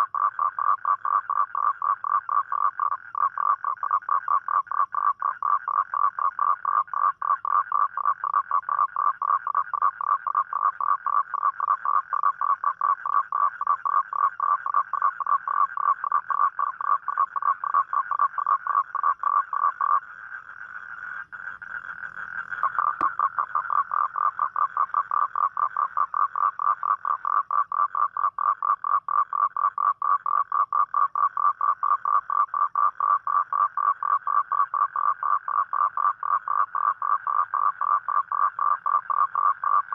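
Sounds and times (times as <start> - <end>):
toad calling: 0.0 - 39.9.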